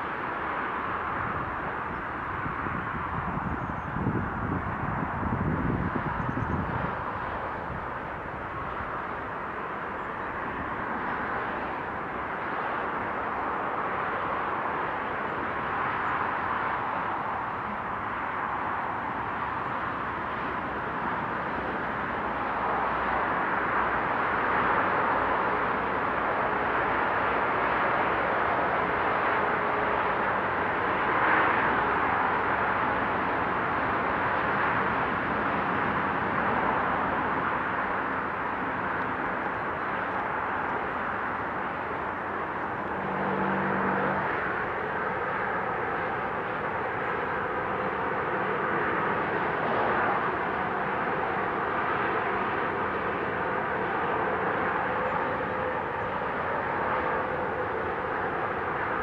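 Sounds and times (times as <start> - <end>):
traffic on motorway: 0.0 - 59.0.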